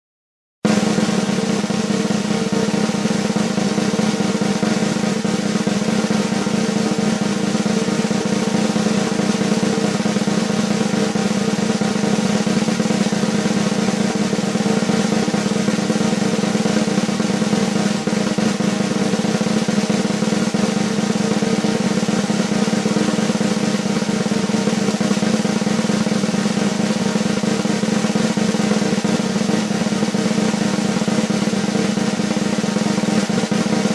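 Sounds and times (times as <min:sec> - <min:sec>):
drum roll: 0:00.7 - 0:33.9.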